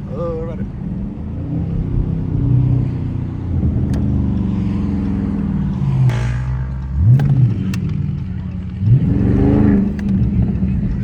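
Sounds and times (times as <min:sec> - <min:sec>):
car exhaust rumbling: 0:00.0 - 0:11.0.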